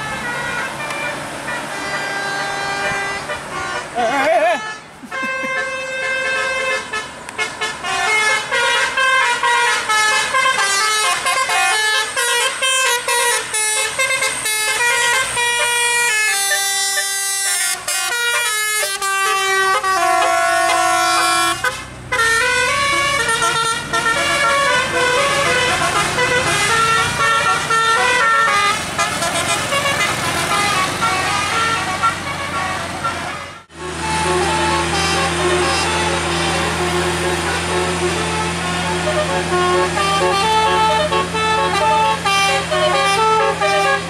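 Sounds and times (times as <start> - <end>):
musical bus horn tune: 0.0 - 44.0.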